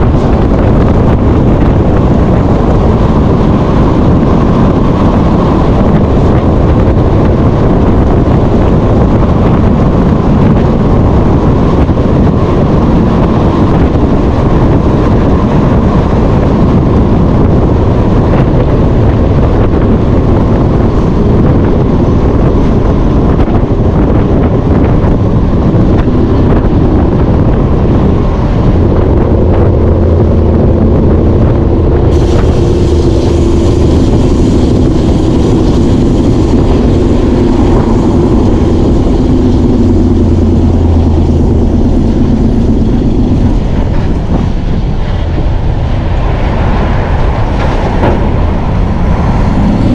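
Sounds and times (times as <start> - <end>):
truck engine drone: 0.0 - 49.9
wind and road noise: 0.0 - 49.9.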